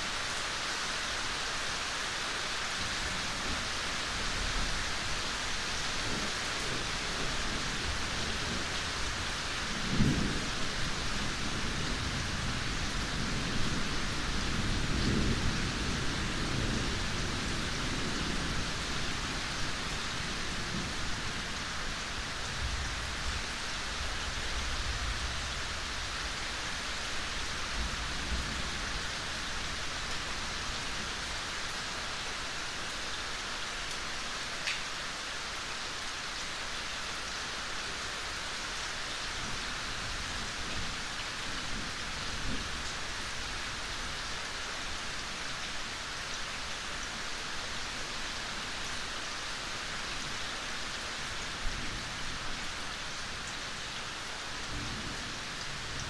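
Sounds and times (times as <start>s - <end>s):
rain falling in forest: 0.0s - 56.0s.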